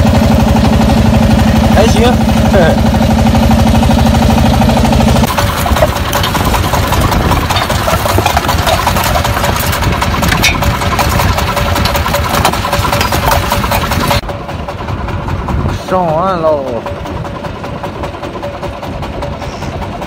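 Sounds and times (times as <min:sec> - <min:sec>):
boat engine chugging: 0:00.0 - 0:20.0.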